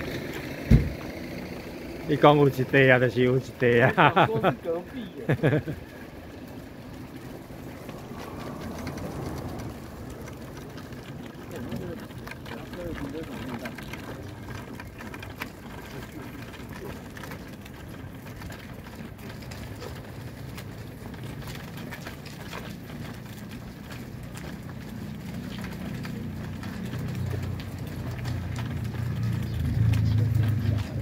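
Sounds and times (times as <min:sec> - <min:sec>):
people walking on asphalt: 0:00.0 - 0:31.0
wheelchair rolling on asphalt: 0:00.0 - 0:31.0.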